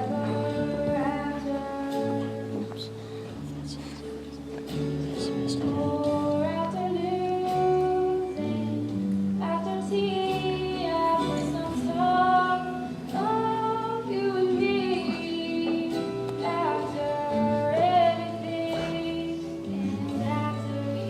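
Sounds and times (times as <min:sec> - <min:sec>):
woman singing: 0:00.0 - 0:03.0, 0:05.3 - 0:21.0
held accompaniment chords: 0:00.0 - 0:21.0.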